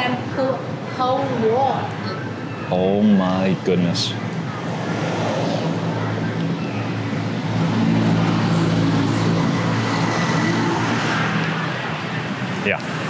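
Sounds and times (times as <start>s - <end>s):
vehicle engine humming: 0.7s - 13.0s.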